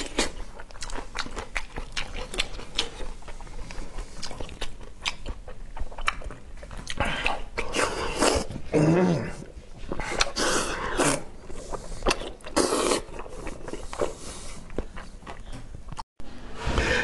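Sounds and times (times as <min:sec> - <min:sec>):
man eating with wet chewing: 0:00.0 - 0:16.0.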